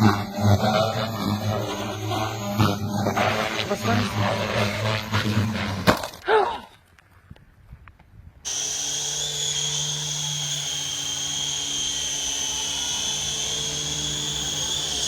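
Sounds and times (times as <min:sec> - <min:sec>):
model helicopter whine: 0:00.0 - 0:05.8, 0:08.5 - 0:15.0.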